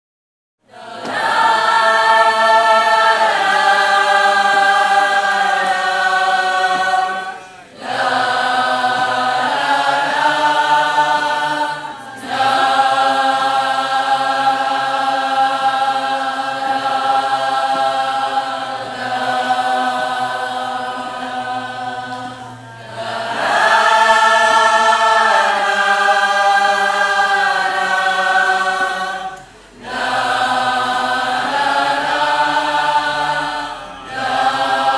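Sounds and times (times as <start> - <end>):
choir singing held chords: 0.6 - 34.9.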